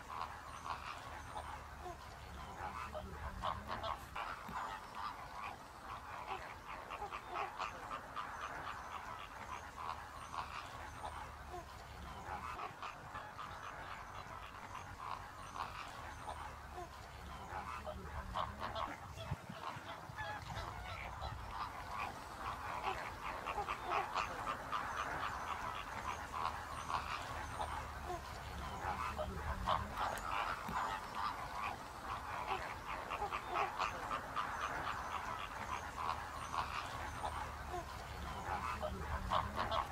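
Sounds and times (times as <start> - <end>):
flamingo flock honking: 0.0 - 39.9.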